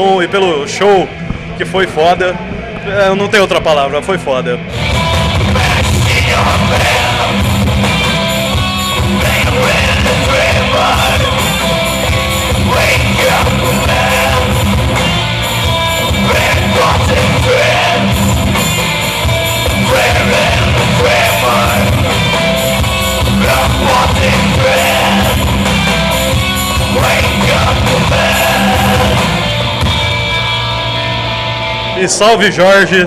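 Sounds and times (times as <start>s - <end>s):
distorted electric guitars: 0.0s - 33.0s
drums: 4.6s - 32.6s.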